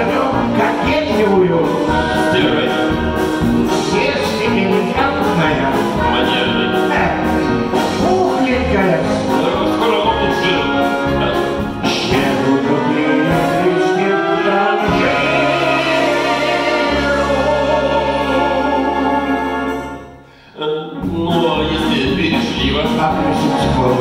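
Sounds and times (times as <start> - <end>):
wind band playing: 0.0 - 20.3.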